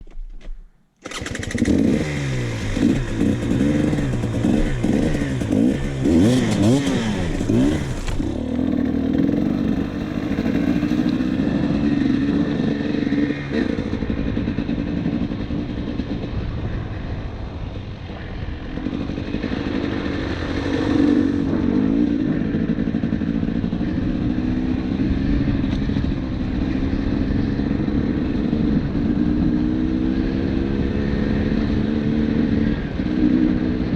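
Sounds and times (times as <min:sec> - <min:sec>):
dirt bike engine revving: 0:01.0 - 0:16.2, 0:18.6 - 0:33.9.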